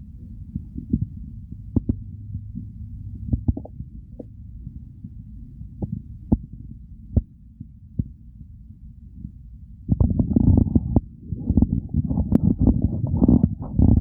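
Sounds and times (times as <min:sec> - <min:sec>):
low stomach rumble: 0:00.0 - 0:14.0.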